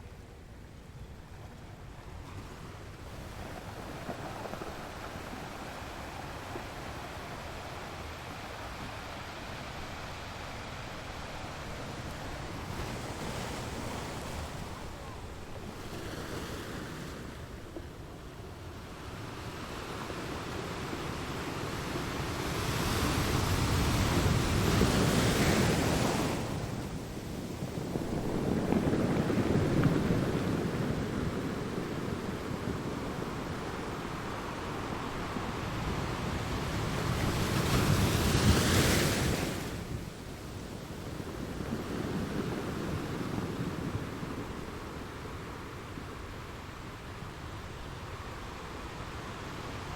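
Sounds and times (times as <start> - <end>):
ocean waves breaking on shore: 2.1 - 49.9.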